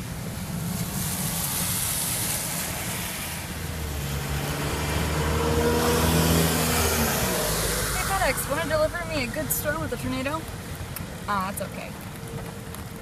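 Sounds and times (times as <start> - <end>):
rain and wind hiss: 0.0 - 13.0
vehicle engine hum: 0.0 - 13.0.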